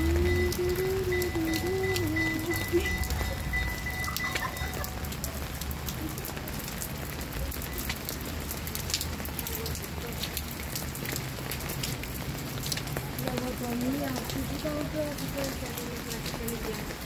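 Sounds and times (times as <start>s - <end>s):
rain falling on wet pavement: 0.0s - 17.0s.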